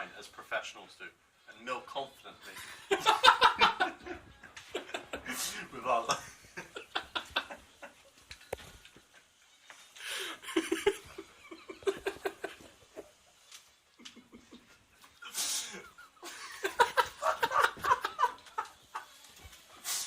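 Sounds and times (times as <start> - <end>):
stifled giggling: 2.4 - 9.3, 10.2 - 19.6.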